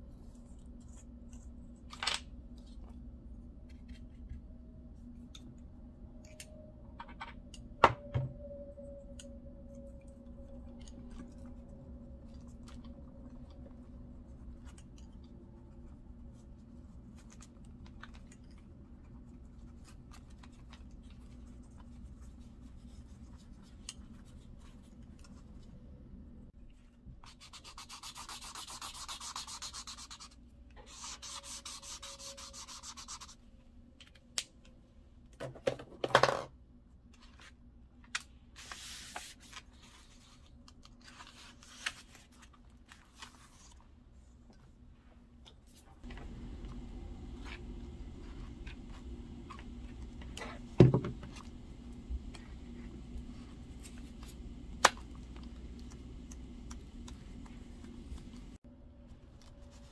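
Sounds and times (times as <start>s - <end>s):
faint low hum: 0.0s - 27.9s, 39.5s - 59.9s.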